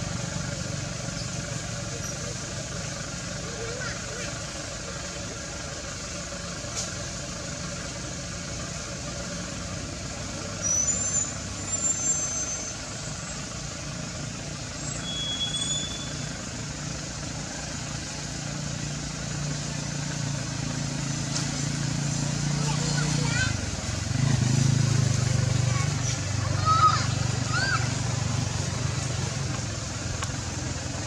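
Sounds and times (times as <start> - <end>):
low engine-like hum: 0.0 - 31.0.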